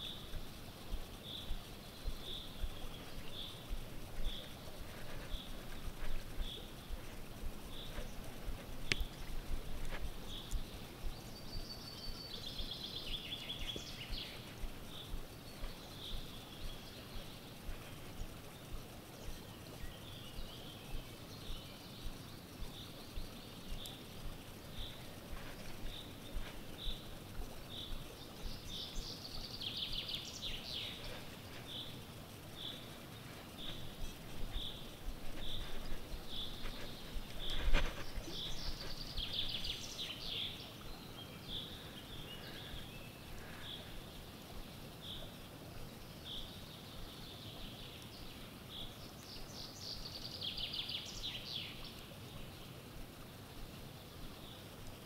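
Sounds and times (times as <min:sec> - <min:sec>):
bird chirping: 0:00.0 - 0:44.1.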